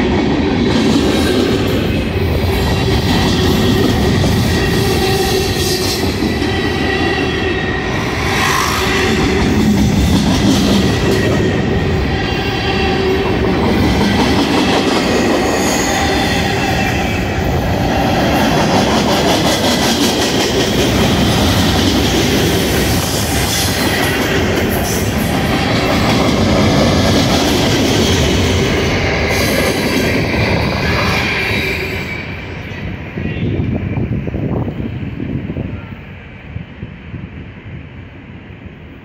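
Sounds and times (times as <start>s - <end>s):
freight train wheels rumbling and clattering: 0.0s - 39.0s.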